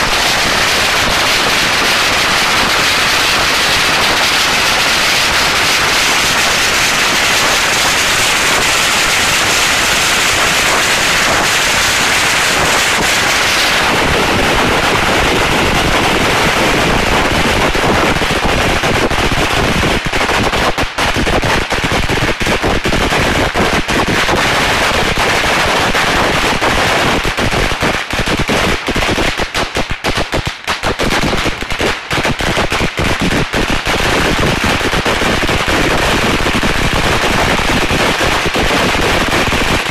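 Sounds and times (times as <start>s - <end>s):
firecrackers banging: 0.0s - 39.9s.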